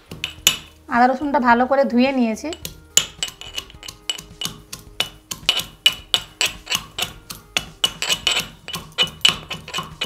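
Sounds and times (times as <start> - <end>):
steel pestle pounding in mortar: 0.0 - 0.7, 2.5 - 10.0.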